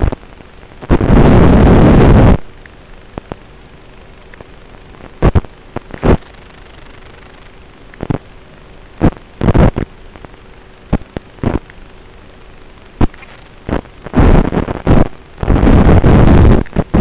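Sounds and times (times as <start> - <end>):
crackling bursts of static: 0.0 - 17.0
faint hum: 0.0 - 17.0
steady radio hiss: 0.0 - 17.0.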